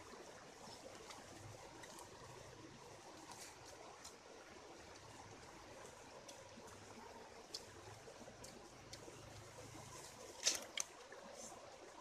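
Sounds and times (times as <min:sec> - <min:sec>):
stream trickling: 0:00.0 - 0:12.0.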